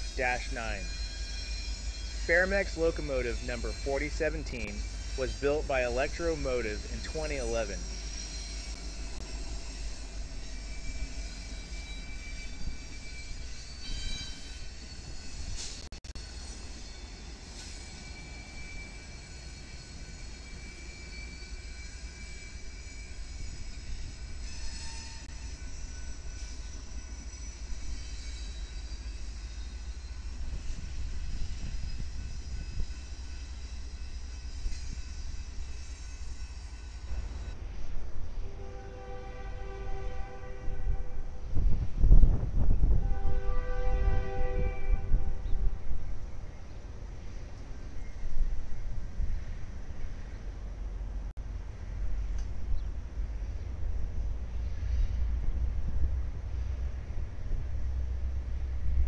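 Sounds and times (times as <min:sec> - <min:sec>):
diesel locomotives rumbling past: 0:00.0 - 0:59.0.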